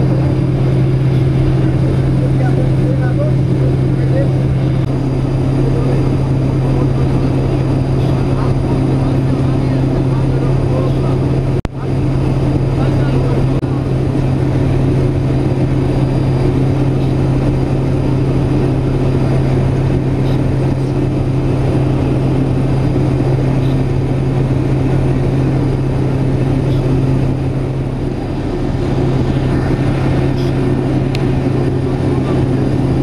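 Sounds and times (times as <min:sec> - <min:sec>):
turboprop engine drone in cabin: 0:00.0 - 0:33.0.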